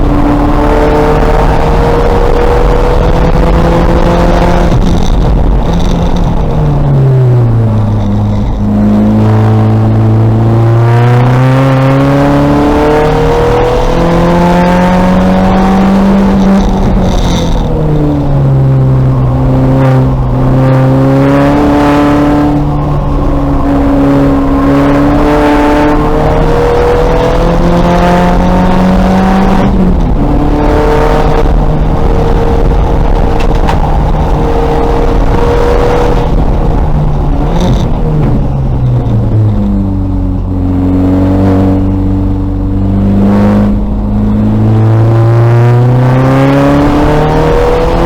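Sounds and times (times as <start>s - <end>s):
race car engine accelerating: 0.0s - 48.0s
road and wind noise: 0.0s - 48.0s.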